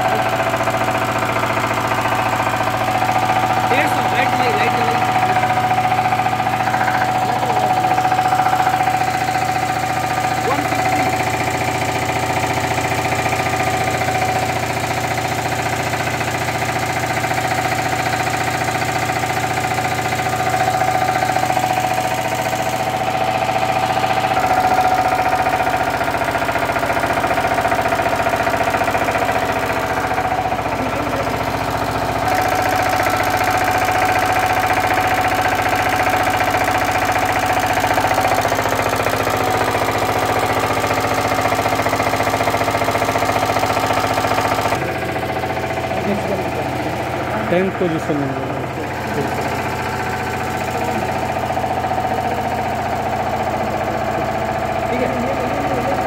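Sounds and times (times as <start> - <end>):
diesel engine running with knocking: 0.0 - 56.0.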